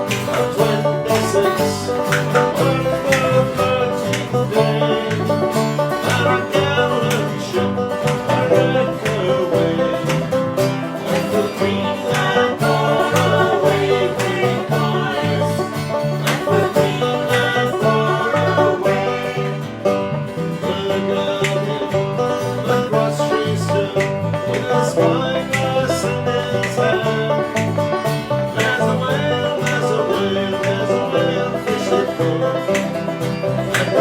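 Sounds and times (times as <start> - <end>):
plucked string instruments: 0.0 - 34.0
steady bass rhythm: 0.0 - 34.0.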